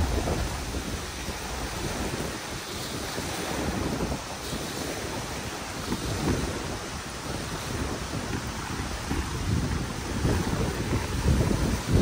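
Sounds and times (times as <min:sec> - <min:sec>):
waves lapping on shore: 0:00.0 - 0:12.0
wind buffeting microphone: 0:00.0 - 0:12.0.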